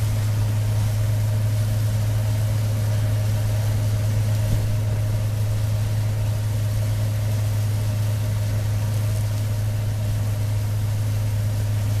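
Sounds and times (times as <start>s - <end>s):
combine engine hum: 0.0s - 12.0s.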